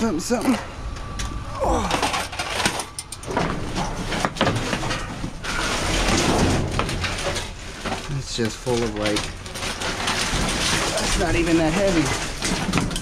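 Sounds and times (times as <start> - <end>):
plastic bags rustling: 1.6 - 13.0.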